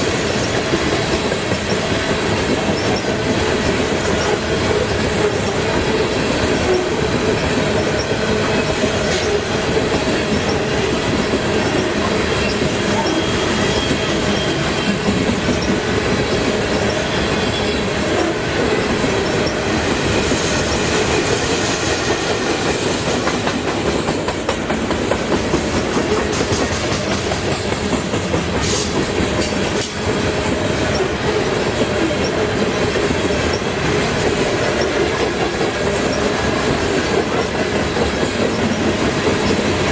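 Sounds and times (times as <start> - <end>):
clickety-clack over rail joints: 0.0 - 39.9
train wheels rumbling on rail: 0.0 - 39.9.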